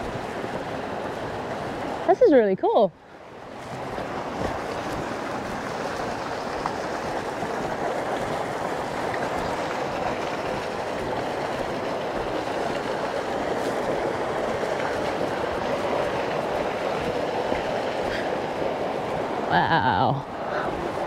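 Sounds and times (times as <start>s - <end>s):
steady rushing noise: 3.8s - 21.0s.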